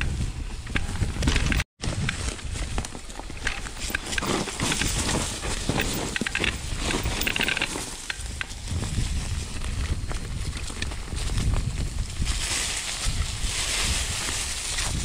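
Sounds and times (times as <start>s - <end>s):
bike clicks and rattles: 0.0s - 12.2s
wind rumble on microphone: 0.0s - 15.0s
tyres crunching over gravel: 0.8s - 15.0s.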